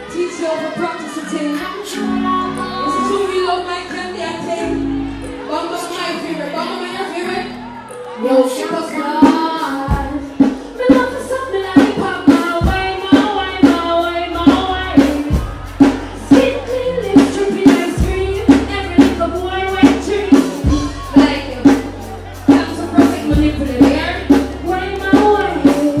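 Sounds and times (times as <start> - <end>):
dancehall backing beat with deep bass: 0.0 - 26.0
woman singing into a microphone: 0.0 - 26.0.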